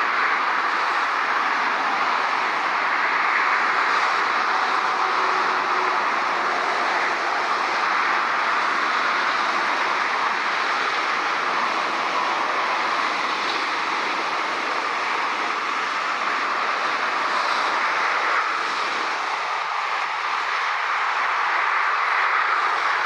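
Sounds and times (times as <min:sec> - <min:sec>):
jet engines roaring: 0:00.0 - 0:23.0
motorway traffic: 0:00.0 - 0:23.0.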